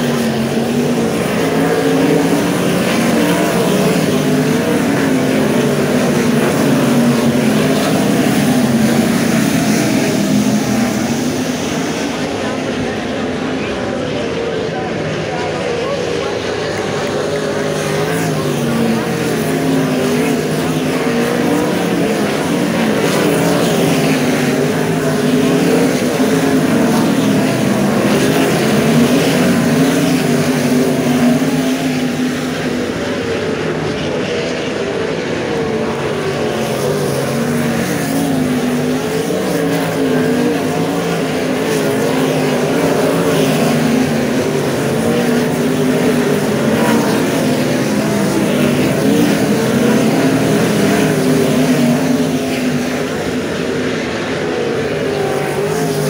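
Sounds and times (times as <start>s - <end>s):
race car engines roaring: 0.0s - 56.0s.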